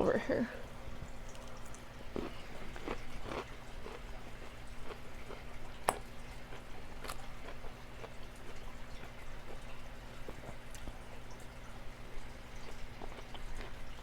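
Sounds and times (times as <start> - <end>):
person chewing salad: 1.3 - 14.0.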